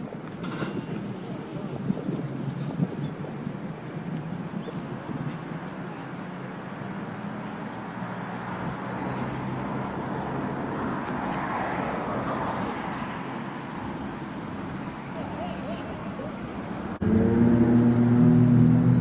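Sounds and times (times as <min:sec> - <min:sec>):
car engine and exhaust hum: 0:00.0 - 0:19.0
tyre and road noise: 0:00.0 - 0:19.0.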